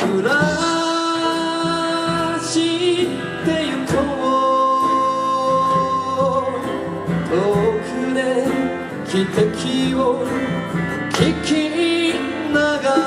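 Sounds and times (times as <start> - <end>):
live band playing folk ballad: 0.0 - 13.0.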